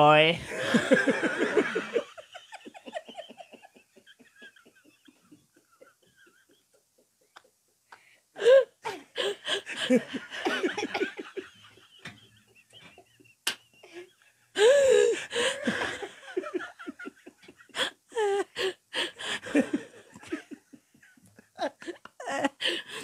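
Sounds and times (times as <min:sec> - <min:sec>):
man laughing hard: 0:00.5 - 0:06.8, 0:09.2 - 0:23.0.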